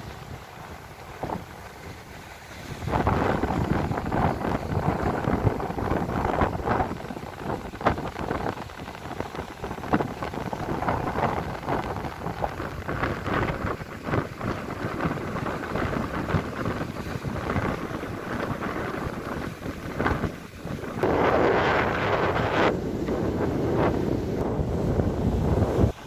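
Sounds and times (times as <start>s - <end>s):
waves breaking on rocks: 0.0s - 26.0s
wind buffeting microphone: 0.0s - 26.0s.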